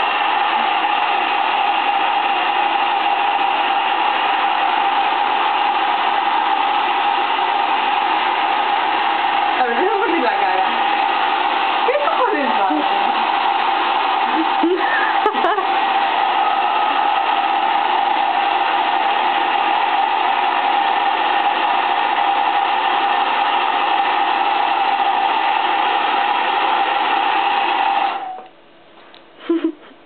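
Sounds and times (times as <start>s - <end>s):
hair dryer running: 0.0s - 28.5s.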